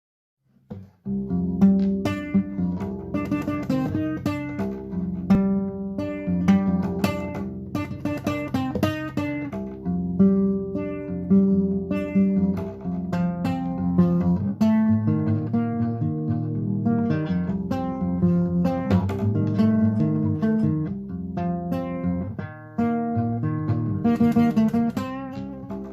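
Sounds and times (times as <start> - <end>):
acoustic guitar playing: 0.5 - 25.9.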